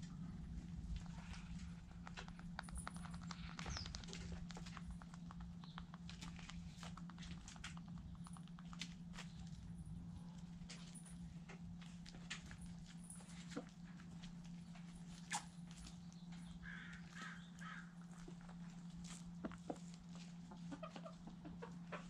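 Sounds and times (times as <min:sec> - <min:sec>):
chickens pecking grain: 0:00.0 - 0:22.0
steady low hum: 0:00.0 - 0:22.0.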